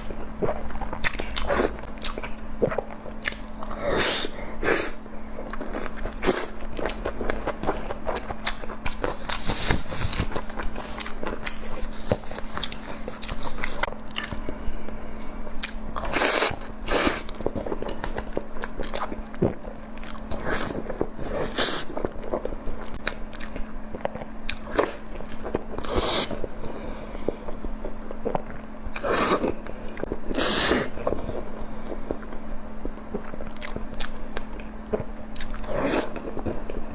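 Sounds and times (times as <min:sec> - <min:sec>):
crunchy chewing: 0:00.0 - 0:36.9.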